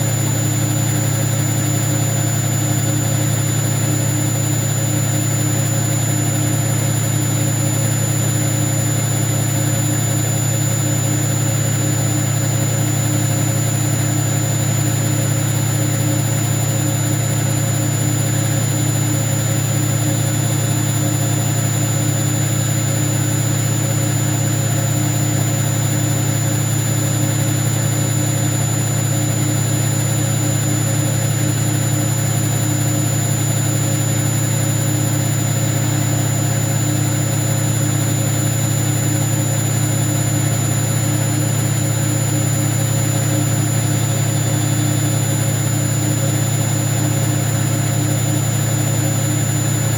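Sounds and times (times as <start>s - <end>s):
washing machine humming: 0.0s - 49.9s.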